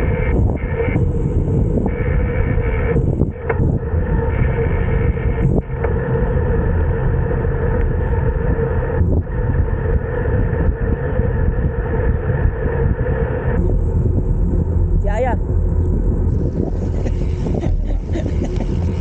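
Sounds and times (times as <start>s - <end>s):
tyre road rush: 0.0s - 19.0s
wind rush: 0.0s - 19.0s.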